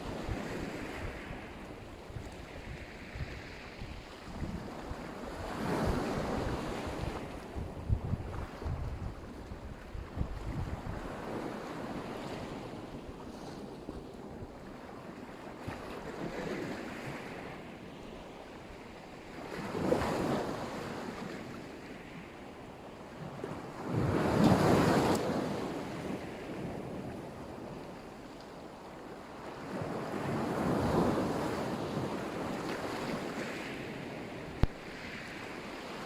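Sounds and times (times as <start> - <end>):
bigger waves breaking: 0.0 - 36.0
waves washing onto shore: 0.0 - 36.0.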